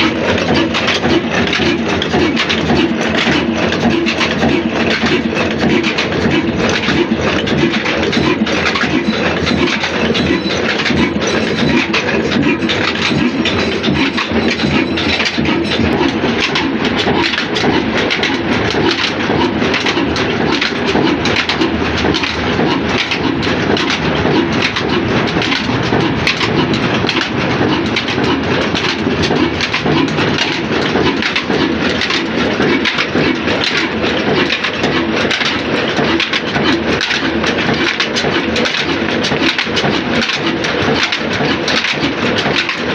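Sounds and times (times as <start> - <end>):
diesel engine clattering: 0.0 - 42.9.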